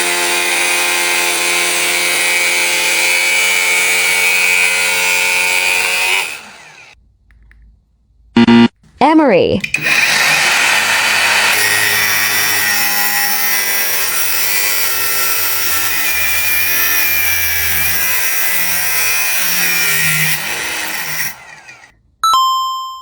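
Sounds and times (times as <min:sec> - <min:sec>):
angle grinder grinding: 0:00.0 - 0:07.0, 0:09.6 - 0:21.9.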